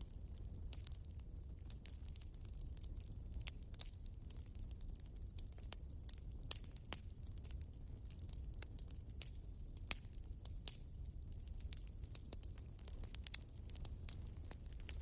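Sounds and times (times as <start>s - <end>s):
log fire crackling: 0.0s - 15.0s.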